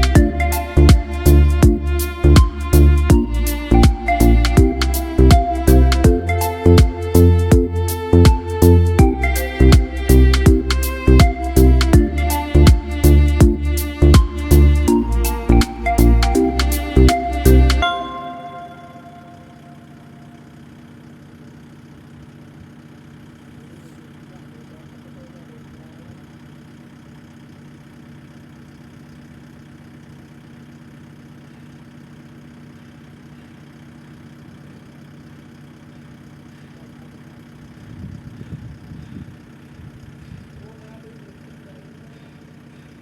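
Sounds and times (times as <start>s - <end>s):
engine idling: 0.0s - 43.0s
uneven engine rumble: 0.0s - 43.0s.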